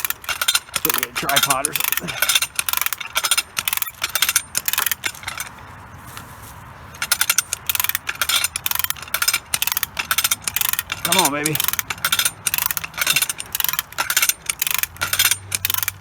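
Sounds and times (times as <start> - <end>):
rope rattling through pulley: 0.0 - 16.0.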